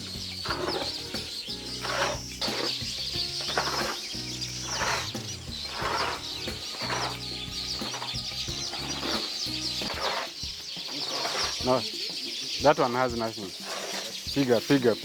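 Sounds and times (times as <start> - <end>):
background music: 0.0 - 15.0
chickens clucking: 0.0 - 15.0
small birds chirping: 0.0 - 15.0.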